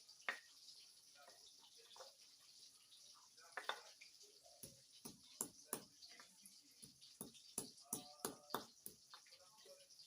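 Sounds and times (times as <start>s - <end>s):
faint sharp clicks and taps: 0.2s - 2.3s, 3.4s - 9.8s.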